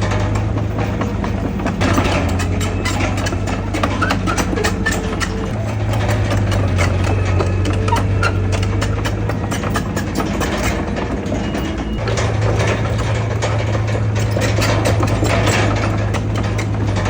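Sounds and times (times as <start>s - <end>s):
bulldozer diesel engine: 0.0s - 17.0s
rapid metallic clanking: 0.0s - 17.0s.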